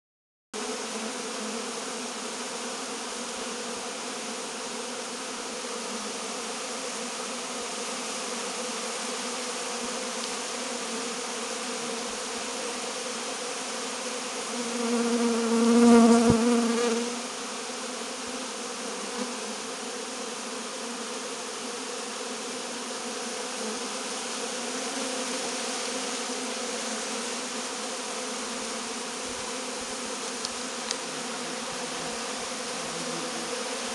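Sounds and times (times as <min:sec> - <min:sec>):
bee flying close by: 0:00.6 - 0:33.9
bees buzzing around hive: 0:00.6 - 0:33.9.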